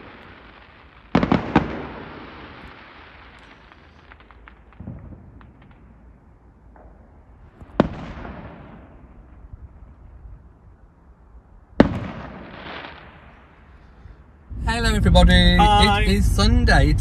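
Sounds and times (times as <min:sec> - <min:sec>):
fireworks bangs: 0:00.0 - 0:10.2, 0:11.8 - 0:13.8, 0:14.5 - 0:17.0.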